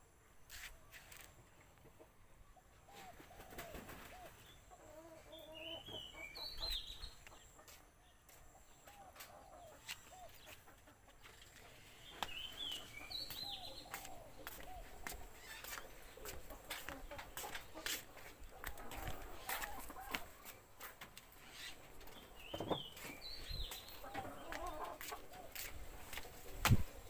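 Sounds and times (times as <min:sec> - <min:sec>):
chickens clucking: 0:01.2 - 0:27.0.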